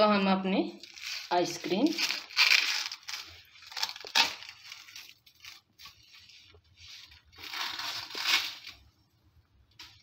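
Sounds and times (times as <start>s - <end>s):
plastic cling wrap crinkling: 0.1s - 10.0s.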